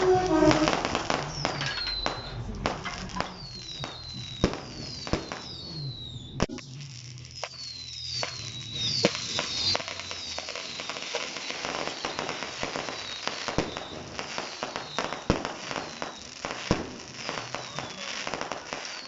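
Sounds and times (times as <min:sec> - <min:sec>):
fireworks bangs: 0:00.0 - 0:19.0
fireworks crackling: 0:00.0 - 0:19.0
fireworks whistling: 0:00.0 - 0:19.0.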